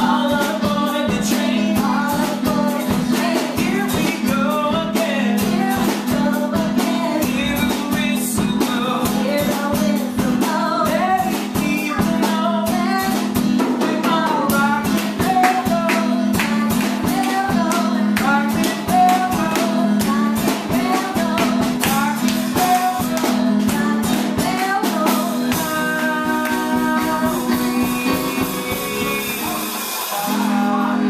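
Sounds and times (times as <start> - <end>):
drum kit steady beat: 0.0 - 31.0
strummed acoustic guitar: 0.0 - 31.0
voices singing: 0.0 - 31.0.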